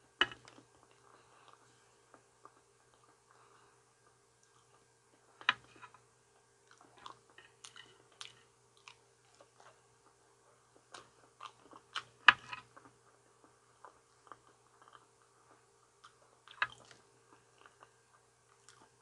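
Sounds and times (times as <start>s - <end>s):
person chewing banana: 0.4s - 19.0s.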